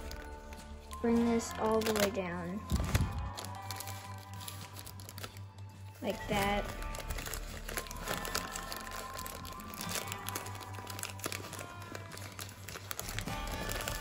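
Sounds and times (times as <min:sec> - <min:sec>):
background music: 0:00.0 - 0:14.0
paper crinkling while folded: 0:00.0 - 0:14.0.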